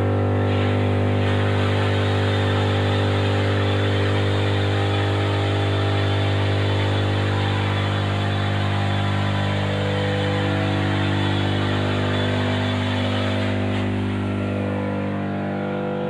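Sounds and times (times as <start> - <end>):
machinery mechanical hum: 0.0 - 16.0.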